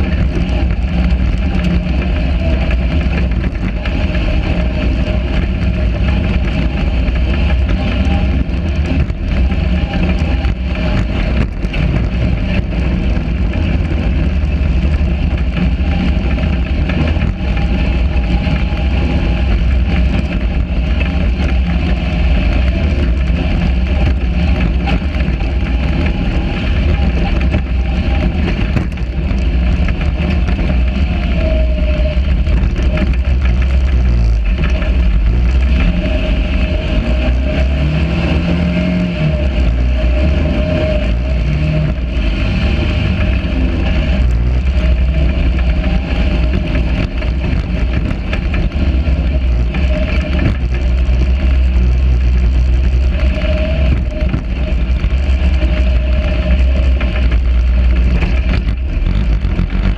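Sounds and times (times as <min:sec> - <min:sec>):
buggy engine running hard: 0:00.0 - 0:59.9.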